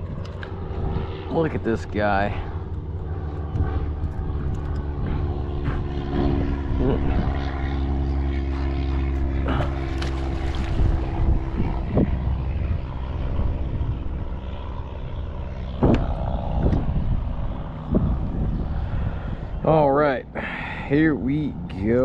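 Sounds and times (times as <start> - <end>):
motor engine droning: 0.0 - 22.0.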